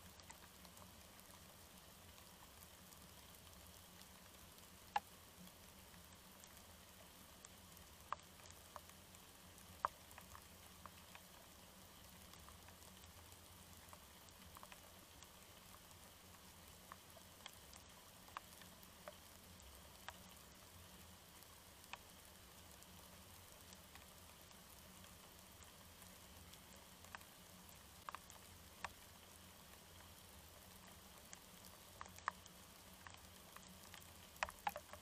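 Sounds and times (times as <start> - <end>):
faint rain hiss: 0.0 - 35.0
raindrops ticking: 0.0 - 35.0.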